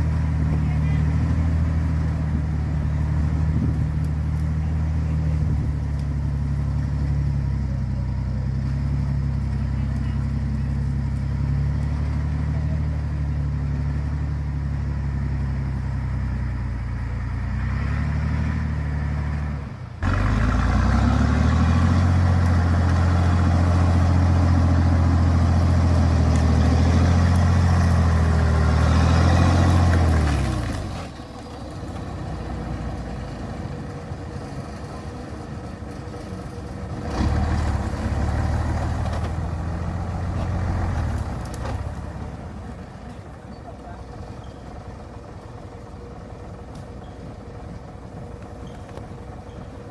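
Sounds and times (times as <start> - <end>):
truck engine labouring: 0.0 - 49.9.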